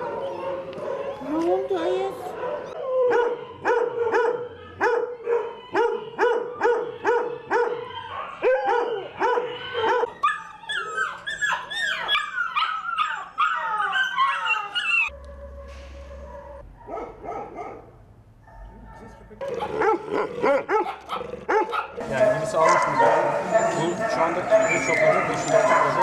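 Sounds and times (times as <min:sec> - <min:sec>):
dogs barking and yelping: 0:00.0 - 0:26.0.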